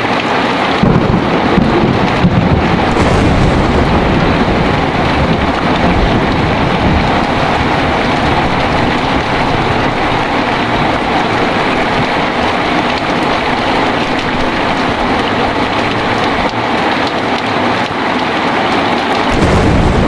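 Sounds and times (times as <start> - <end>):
heavy rain falling: 0.0 - 20.0
deep thunder rumble: 0.8 - 17.0, 19.2 - 20.0.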